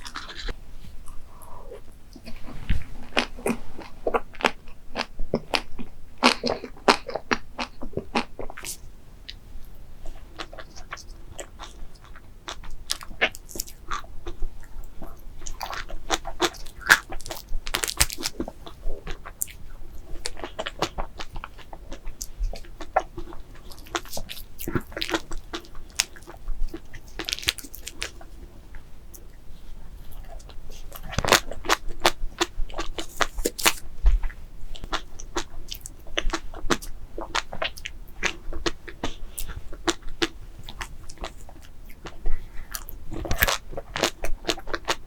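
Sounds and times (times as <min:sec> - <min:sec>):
crunchy dessert being chewed: 0:00.0 - 0:45.0.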